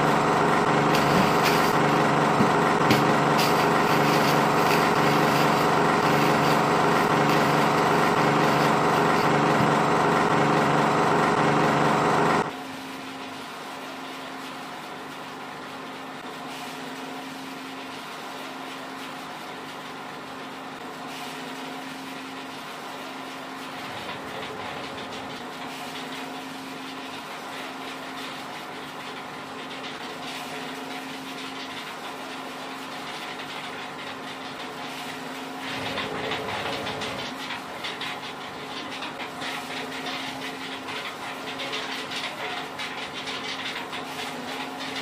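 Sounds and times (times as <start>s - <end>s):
pellet mill motor humming: 0.0s - 14.2s, 14.9s - 45.0s.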